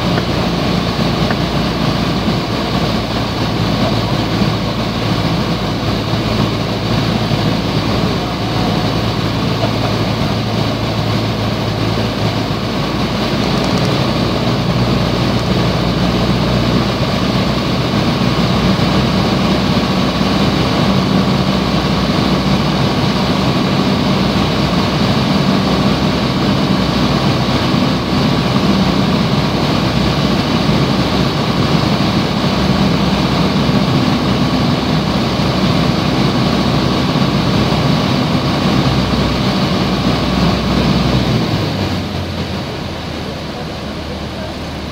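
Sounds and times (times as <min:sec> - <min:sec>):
propeller plane engine in flight: 0:00.0 - 0:44.9.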